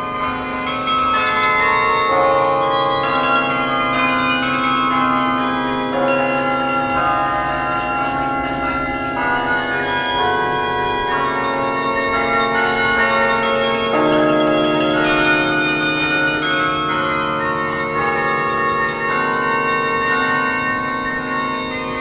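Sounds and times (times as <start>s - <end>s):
carillon bells playing slow tune: 0.0s - 22.0s.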